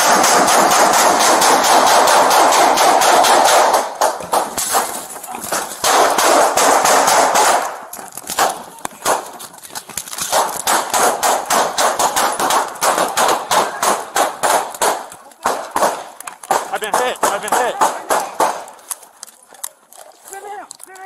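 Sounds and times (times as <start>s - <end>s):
rapid gunshots: 0.0s - 9.3s, 10.2s - 18.7s.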